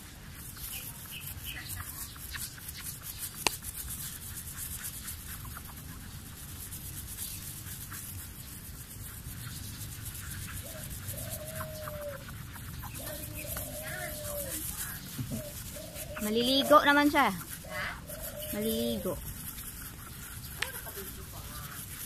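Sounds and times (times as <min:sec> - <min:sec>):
sponge scrubbing glass: 0:00.0 - 0:22.0.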